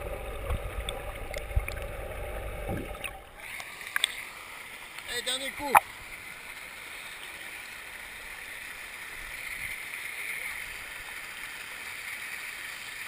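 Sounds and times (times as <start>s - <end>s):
pool water splashing and lapping: 0.0s - 13.0s.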